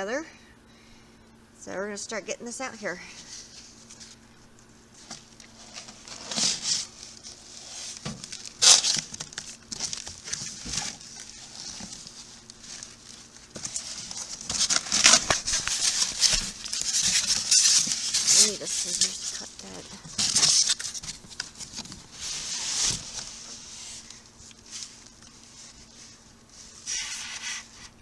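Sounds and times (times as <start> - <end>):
packing paper rustling: 4.9 - 28.0.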